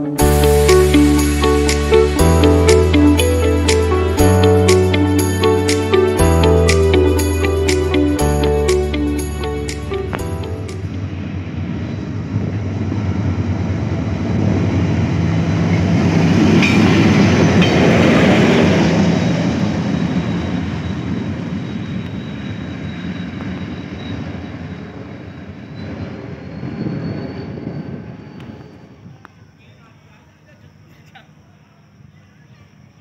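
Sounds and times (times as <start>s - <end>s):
diesel locomotive engine drone: 0.0s - 32.9s.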